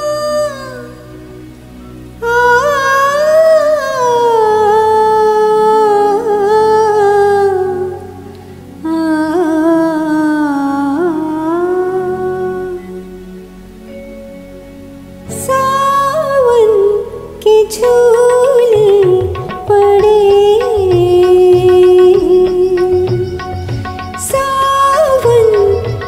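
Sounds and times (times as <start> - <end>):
woman vocalising wordless melody: 0.0 - 14.6, 15.2 - 26.0
soft karaoke backing track: 0.0 - 26.0.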